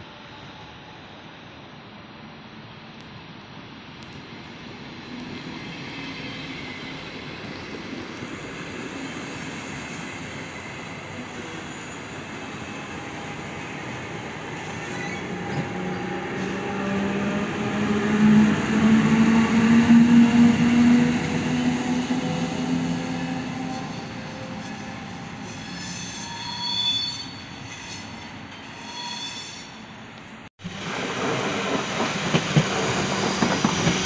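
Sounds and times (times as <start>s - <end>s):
electric locomotive whine: 0.0s - 34.0s
train wheels on rails: 4.1s - 26.4s, 27.0s - 34.0s.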